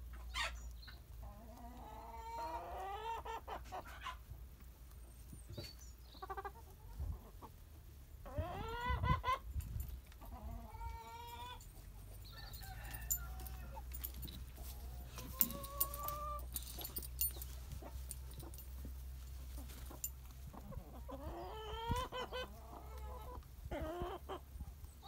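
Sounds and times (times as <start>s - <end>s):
hens clucking and calling: 0.0s - 25.0s.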